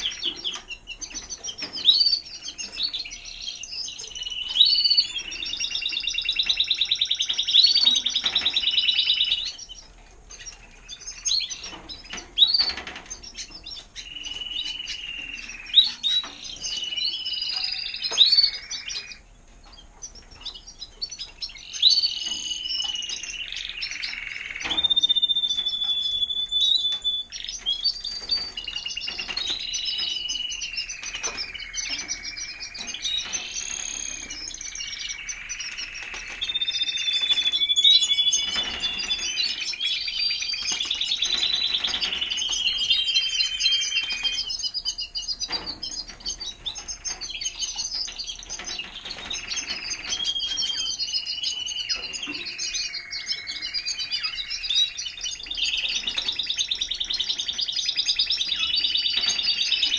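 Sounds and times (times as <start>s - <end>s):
canaries singing trills: 0.0s - 59.9s.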